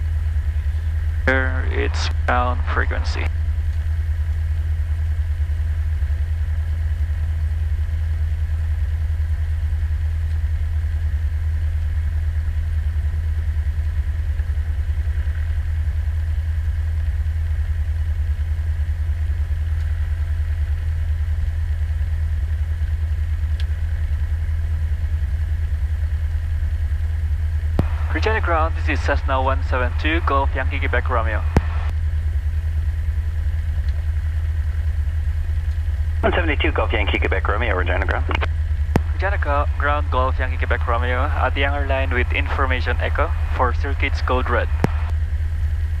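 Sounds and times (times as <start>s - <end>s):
airplane engine idling: 0.0s - 46.0s.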